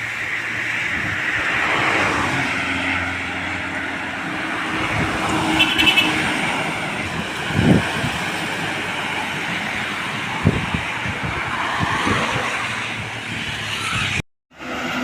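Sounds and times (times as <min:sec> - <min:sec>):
tyre and road noise: 0:00.0 - 0:15.0
large vehicle engine passing: 0:00.1 - 0:15.0.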